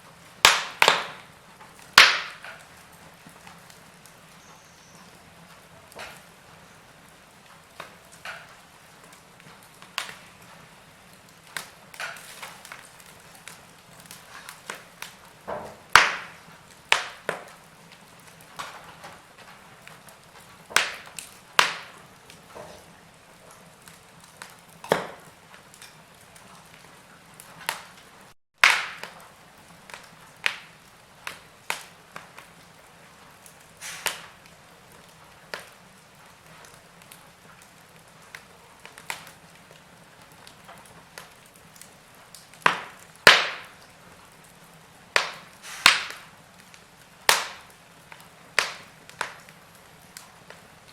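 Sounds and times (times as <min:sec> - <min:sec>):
burning logs crackling: 0:00.0 - 0:50.9
faint steady hiss: 0:00.0 - 0:50.9.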